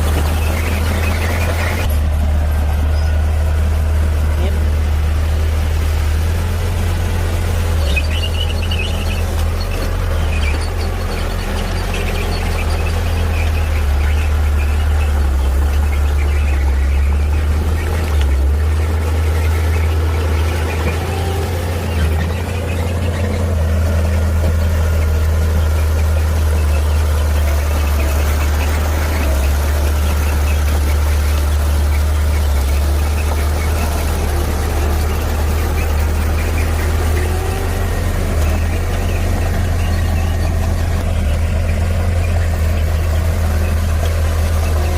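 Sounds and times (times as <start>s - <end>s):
heavy diesel engine rumbling: 0.0s - 44.9s.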